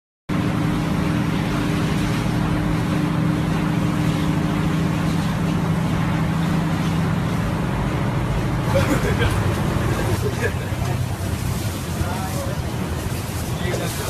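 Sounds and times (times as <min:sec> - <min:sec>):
vehicle engine running: 0:00.3 - 0:14.0.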